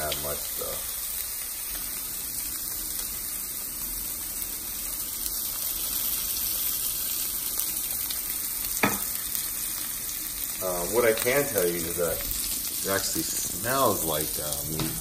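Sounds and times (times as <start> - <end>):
sausages sizzling in a skillet: 0.0 - 15.0.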